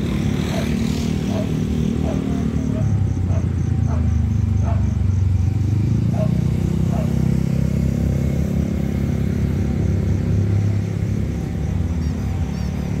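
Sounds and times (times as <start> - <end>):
heavy diesel engines droning: 0.0 - 13.0.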